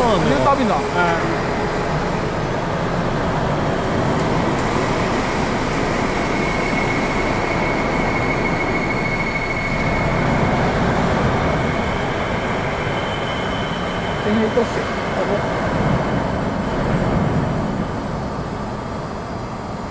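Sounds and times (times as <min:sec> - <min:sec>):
factory machinery rumble and hiss: 0:00.0 - 0:19.9
thin high whine: 0:00.0 - 0:19.9.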